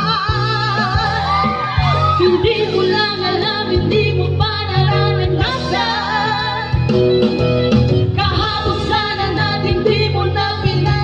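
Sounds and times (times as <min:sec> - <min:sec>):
women singing a ballad: 0:00.0 - 0:07.0, 0:08.1 - 0:11.0
instrumental accompaniment: 0:00.0 - 0:11.0.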